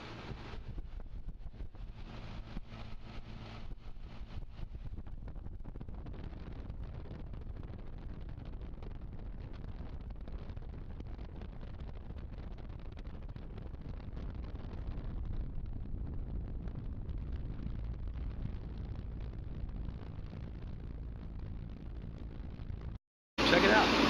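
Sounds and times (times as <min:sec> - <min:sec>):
steady low rumbling: 0:00.0 - 0:24.0.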